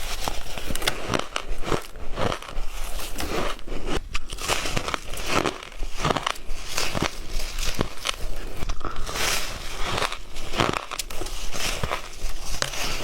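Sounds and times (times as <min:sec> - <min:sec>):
ice crunching while chewed: 0:00.0 - 0:13.0.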